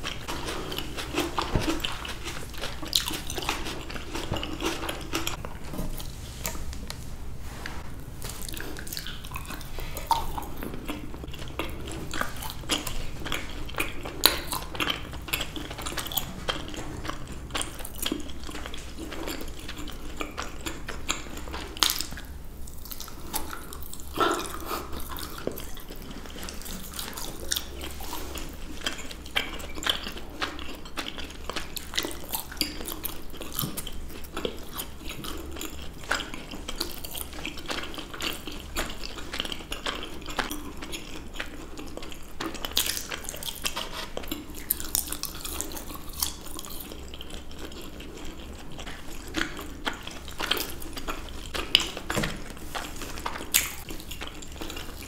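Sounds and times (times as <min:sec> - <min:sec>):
chewing and biting fruit: 0:00.0 - 0:06.8, 0:08.2 - 0:55.0.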